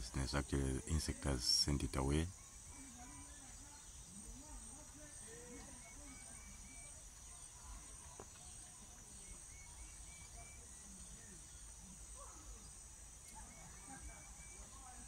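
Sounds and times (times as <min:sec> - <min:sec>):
high-pitched insect chorus: 0:00.0 - 0:15.0
quick evenly spaced chirps: 0:00.0 - 0:15.0.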